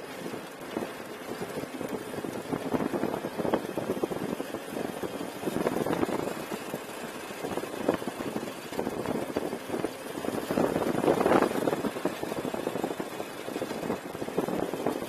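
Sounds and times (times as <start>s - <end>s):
go-kart rumbling and rattling: 0.0s - 15.0s.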